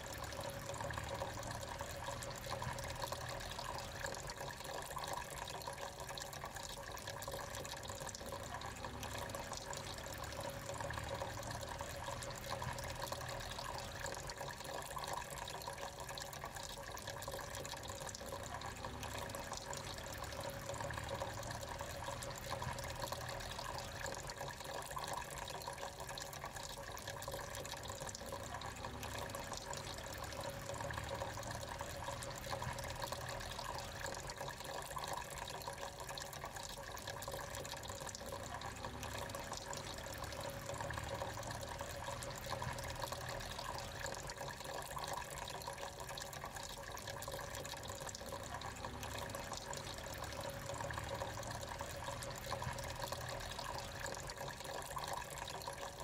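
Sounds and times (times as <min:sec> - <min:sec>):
fountain water splashing into basin: 0:00.0 - 0:56.0.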